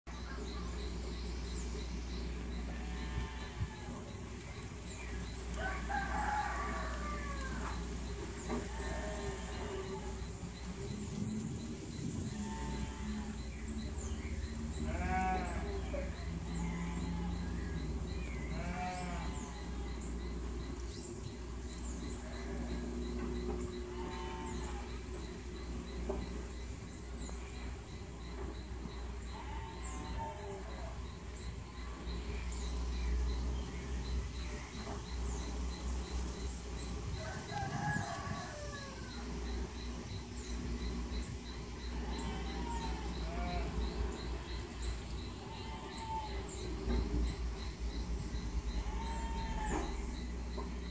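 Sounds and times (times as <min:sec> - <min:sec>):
bird calling: 0:00.1 - 0:50.9
faint high pulsing chirping: 0:00.1 - 0:50.9.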